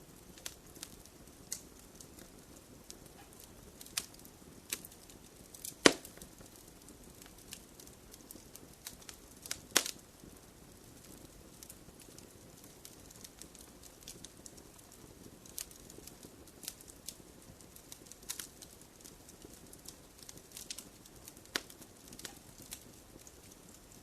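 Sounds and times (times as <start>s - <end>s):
faint low hiss: 0.0s - 24.0s
wood fire crackling: 0.0s - 24.0s.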